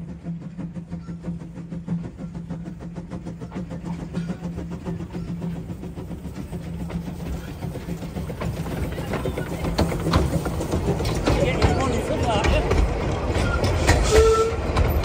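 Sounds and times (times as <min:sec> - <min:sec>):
steam locomotive beats: 0:00.0 - 0:15.0.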